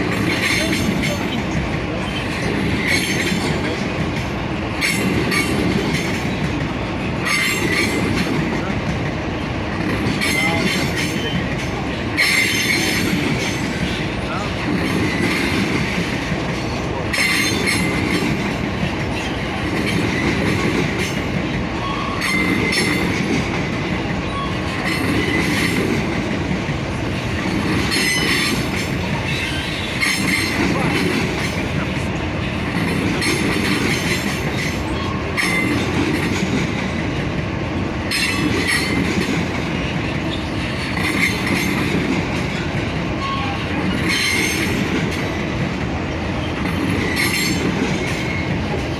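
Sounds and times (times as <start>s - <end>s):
train wheel squeal: 0.0s - 3.8s, 4.8s - 6.4s, 7.2s - 8.6s, 10.2s - 26.1s, 27.5s - 32.0s, 32.7s - 37.1s, 38.1s - 39.4s, 40.1s - 45.5s, 46.4s - 48.9s
freight train wagons rolling: 0.0s - 48.9s.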